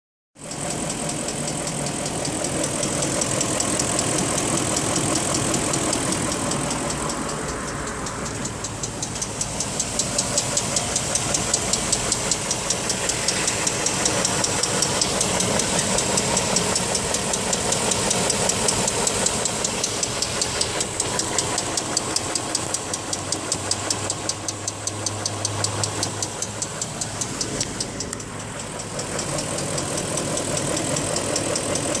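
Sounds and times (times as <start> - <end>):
car engine running: 0.4 - 32.0
rapid even engine ticking: 0.4 - 32.0.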